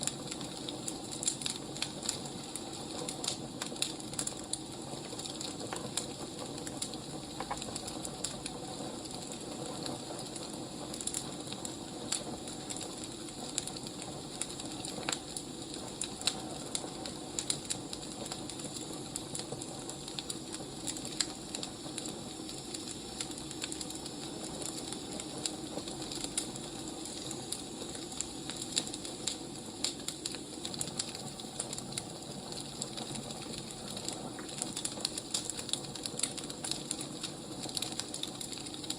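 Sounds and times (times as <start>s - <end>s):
firewood crackling: 0.0s - 38.9s
low rush of fire: 0.0s - 38.9s.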